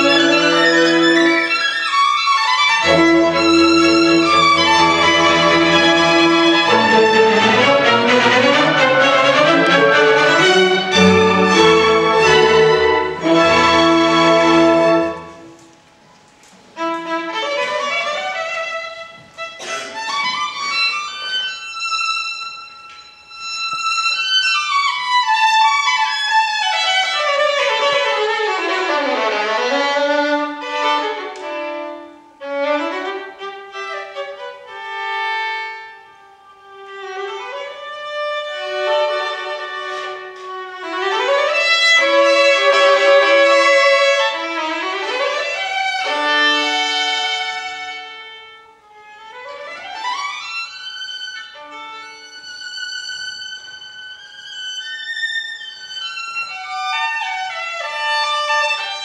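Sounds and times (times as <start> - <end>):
solo violin playing fast runs: 0.0 - 15.6, 20.4 - 36.0, 36.6 - 59.0.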